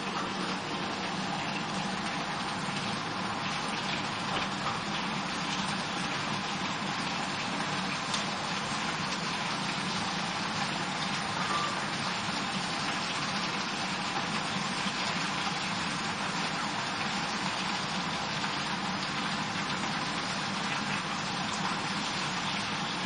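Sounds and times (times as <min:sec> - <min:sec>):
vegetables sizzling in frying oil: 0:00.0 - 0:23.0.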